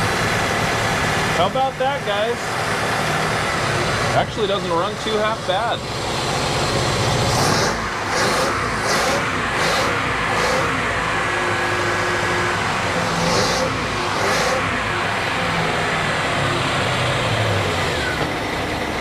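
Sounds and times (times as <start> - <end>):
boat engine running above idle: 0.0 - 19.0.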